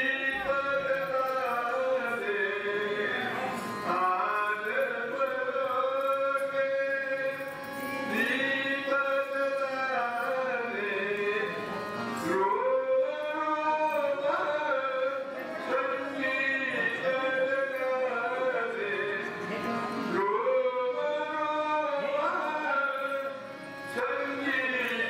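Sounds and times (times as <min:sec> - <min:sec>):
person singing devotional chant: 0:00.0 - 0:25.0.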